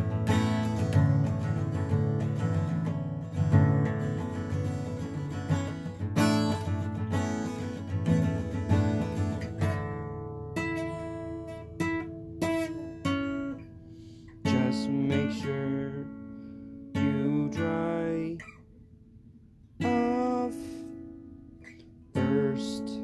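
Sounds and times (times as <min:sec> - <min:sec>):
acoustic guitar strumming: 0:00.0 - 0:18.8, 0:19.7 - 0:23.0.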